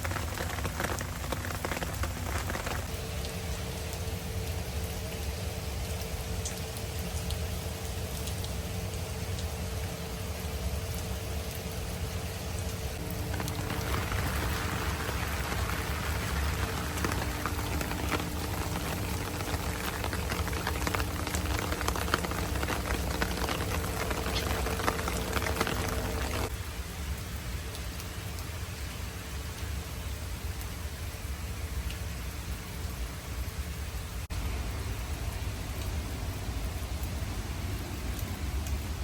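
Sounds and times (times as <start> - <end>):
heavy rain pattering: 0.0 - 28.5, 34.3 - 39.0
low steady hum: 0.0 - 39.0.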